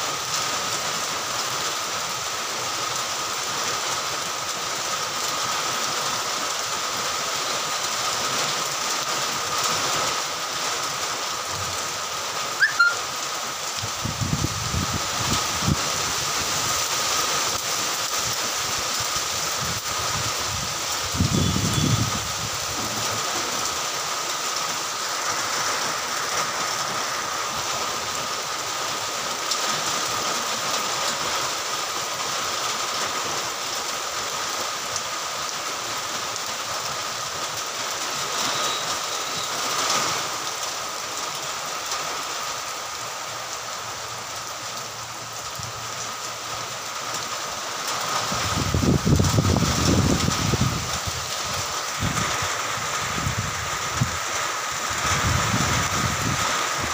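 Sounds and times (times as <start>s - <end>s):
light rain on leaves: 0.0s - 56.9s.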